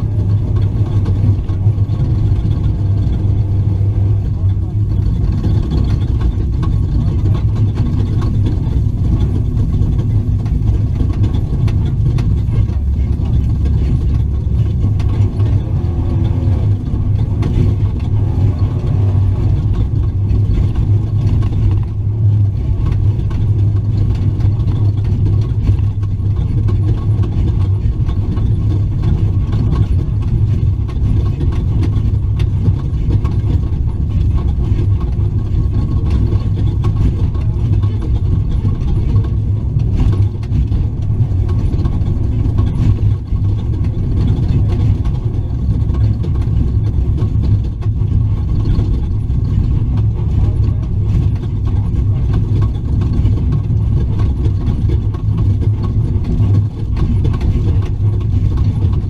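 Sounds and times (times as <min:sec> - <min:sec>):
knocks and rattles: 0:00.0 - 0:59.0
truck engine running: 0:00.0 - 0:59.0.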